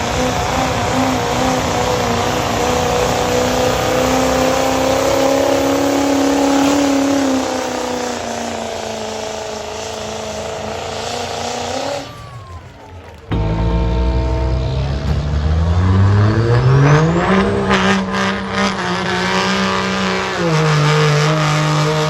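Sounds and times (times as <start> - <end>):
diesel truck engine revving: 0.0 - 22.0.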